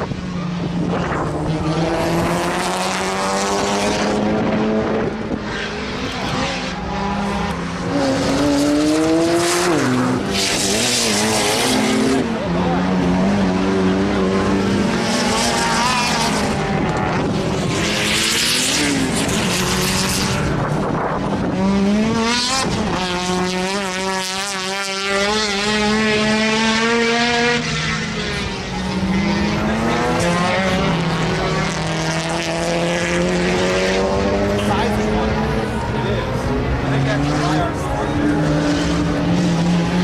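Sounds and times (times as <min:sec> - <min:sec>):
race car engine shifting gears: 0:00.0 - 0:40.0.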